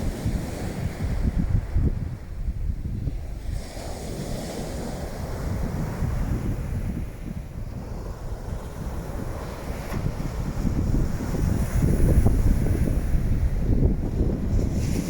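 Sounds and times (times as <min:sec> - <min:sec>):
small waves breaking on beach: 0:00.0 - 0:15.0
wind buffeting microphone: 0:00.0 - 0:15.0.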